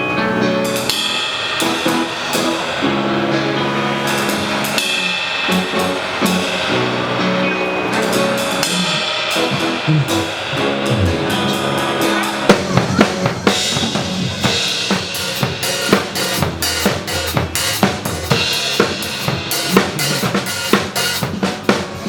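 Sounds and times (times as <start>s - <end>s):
drum kit playing: 0.0s - 22.0s
cymbal crashes: 0.6s - 21.4s.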